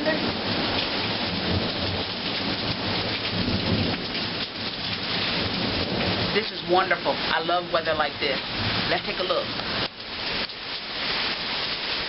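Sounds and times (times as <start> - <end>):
low rumble of thunder: 0.0 - 9.7
rain pouring down: 0.0 - 12.0.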